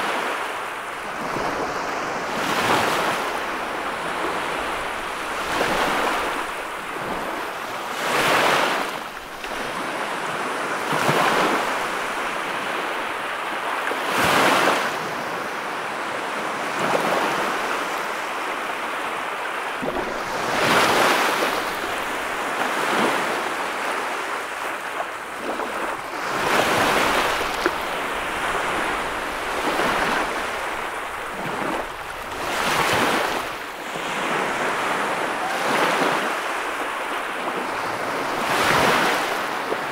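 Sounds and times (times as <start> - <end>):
small waves washing on sand: 0.0 - 39.9.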